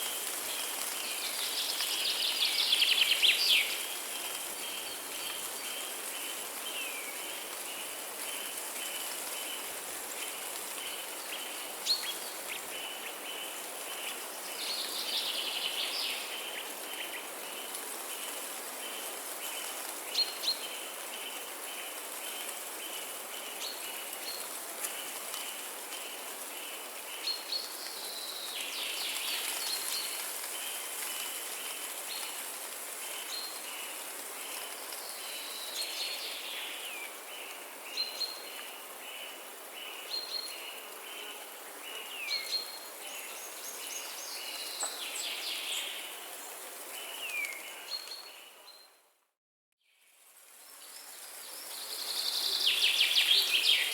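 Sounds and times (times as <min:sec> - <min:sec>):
constant hiss: 0:00.0 - 0:48.7, 0:50.0 - 0:53.9.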